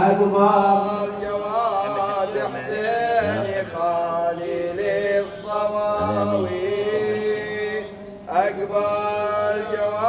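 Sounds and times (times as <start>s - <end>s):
man chanting a lament: 0.0s - 10.0s.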